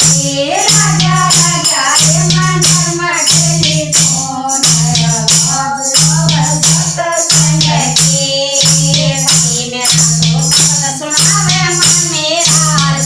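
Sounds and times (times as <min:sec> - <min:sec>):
percussion beat: 0:00.0 - 0:13.0
person singing devotional song: 0:00.0 - 0:13.0.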